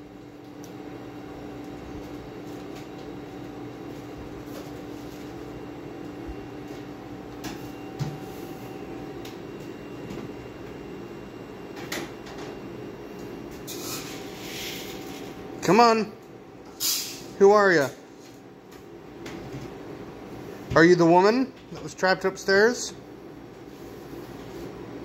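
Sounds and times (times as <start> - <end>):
machine hum: 0.0 - 20.8.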